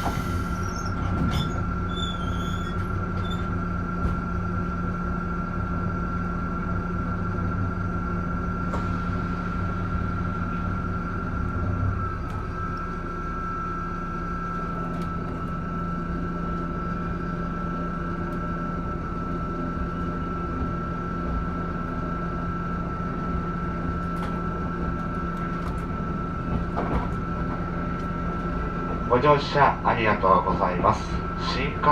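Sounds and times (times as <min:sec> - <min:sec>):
train low hum: 0:00.0 - 0:31.9
train rumble: 0:00.0 - 0:31.9.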